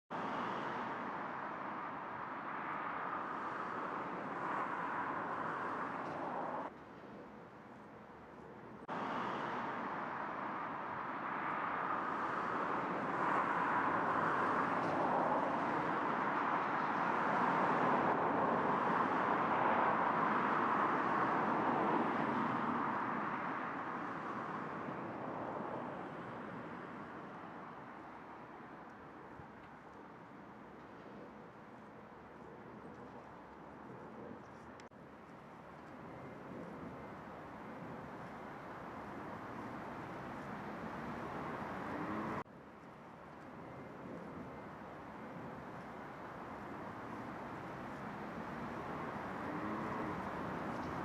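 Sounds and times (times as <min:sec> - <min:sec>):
distant road traffic rush: 0:00.1 - 0:51.0.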